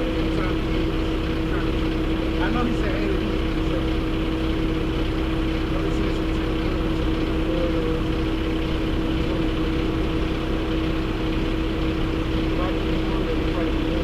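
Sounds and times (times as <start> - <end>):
heavy truck engine rumbling: 0.0 - 14.0.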